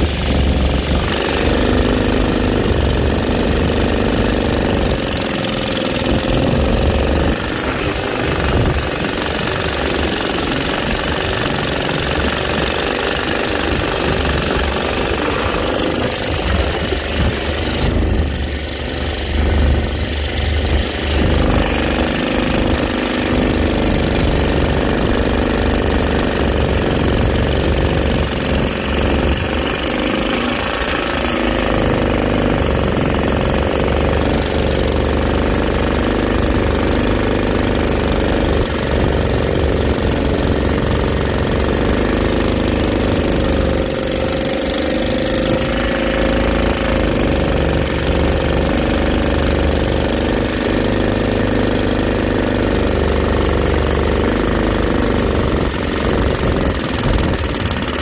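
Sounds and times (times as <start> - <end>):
boat motor engine droning: 0.0 - 58.0.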